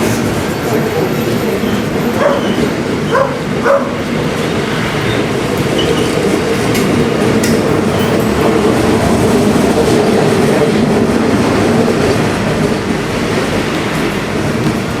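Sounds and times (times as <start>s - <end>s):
freight train rumbling past: 0.0s - 15.0s
train wheels clicking on track: 0.0s - 15.0s.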